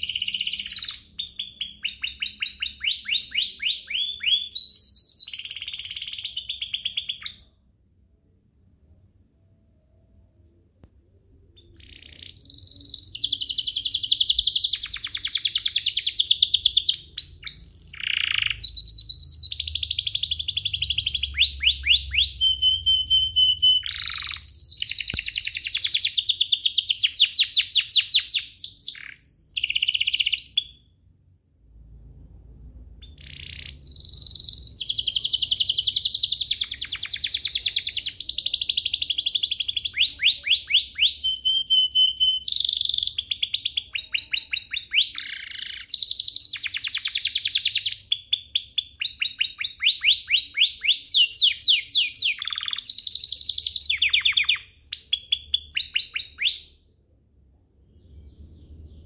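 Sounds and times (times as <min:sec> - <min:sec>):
canary singing trills: 0:00.0 - 0:07.6, 0:11.5 - 0:31.0, 0:33.0 - 0:56.8.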